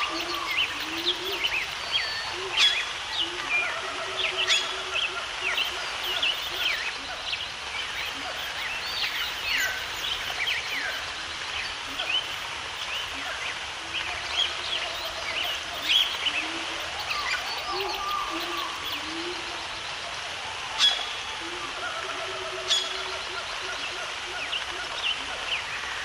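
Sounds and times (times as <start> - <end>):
birds chirping and calling: 0.0 - 26.0
steady background hiss: 0.0 - 26.0.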